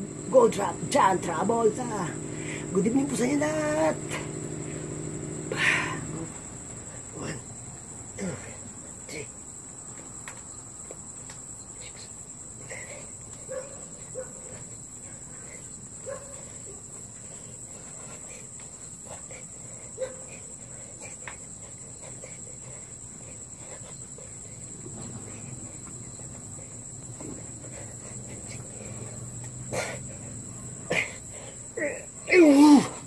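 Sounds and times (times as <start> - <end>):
cricket trilling: 0.0 - 33.0.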